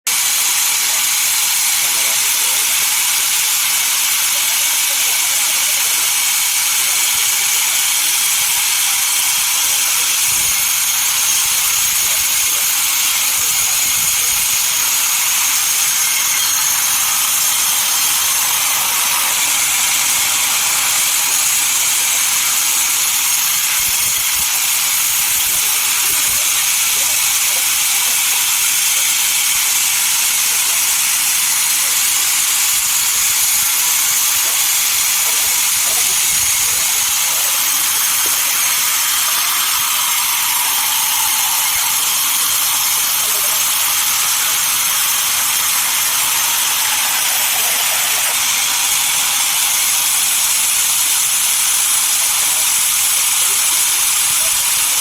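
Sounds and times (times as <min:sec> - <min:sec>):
sawmill saw cutting log: 0:00.1 - 0:55.0.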